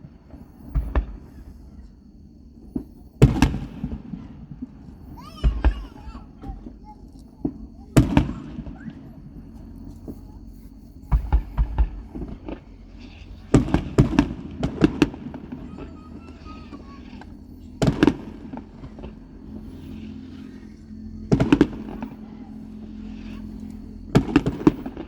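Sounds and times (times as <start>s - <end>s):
fireworks cracking: 0.0s - 25.0s.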